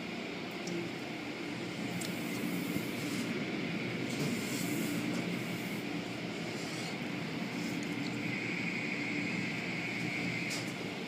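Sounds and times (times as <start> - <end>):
car wash machinery running: 0.0 - 11.0.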